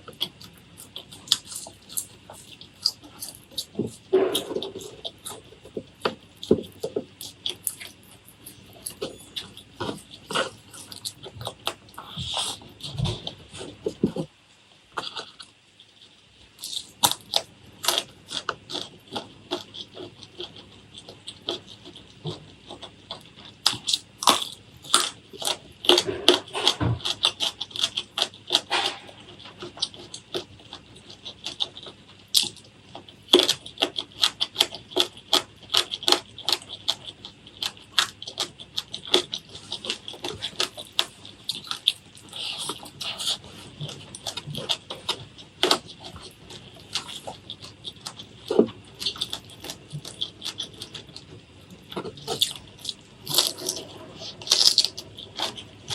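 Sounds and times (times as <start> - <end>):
crunching and wet chewing: 0.0 - 55.9.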